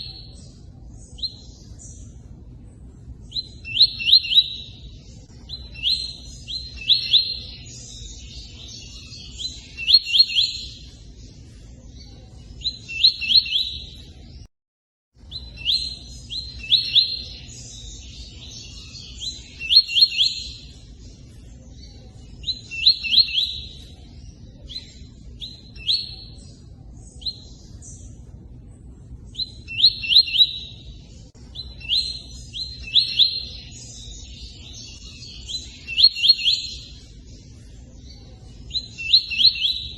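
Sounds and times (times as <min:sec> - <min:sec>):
bird chirping: 0:00.0 - 0:14.5, 0:15.2 - 0:39.9.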